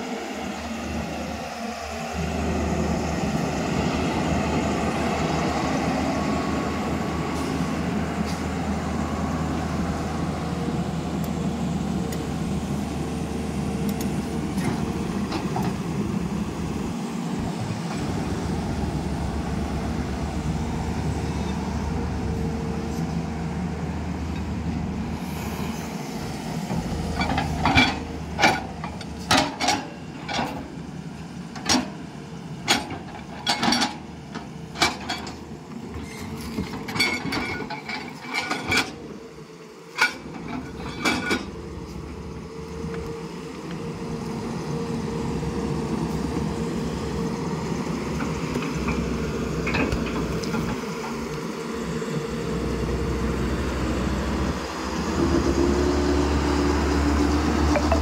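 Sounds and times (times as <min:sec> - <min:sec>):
excavator diesel engine and hydraulics: 0:00.0 - 0:58.0.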